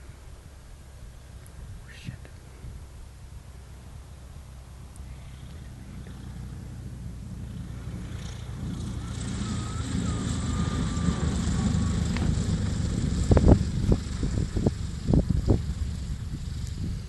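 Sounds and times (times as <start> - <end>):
propeller plane engine rumbling: 0.0 - 17.0.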